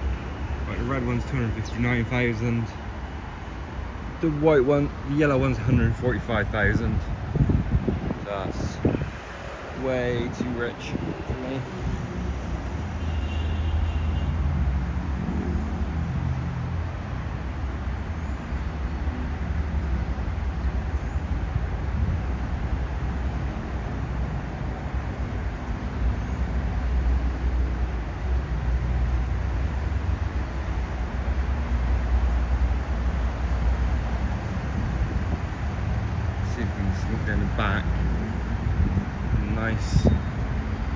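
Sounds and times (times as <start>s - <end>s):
road traffic rumble: 0.0s - 40.9s.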